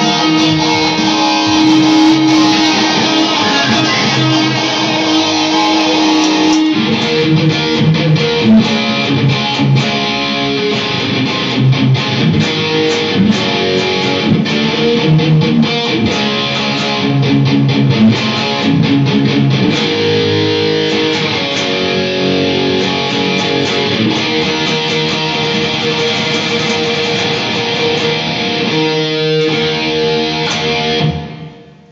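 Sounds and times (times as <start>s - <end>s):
electric guitar rock lead: 0.0s - 31.9s
held guitar chords: 0.0s - 31.9s.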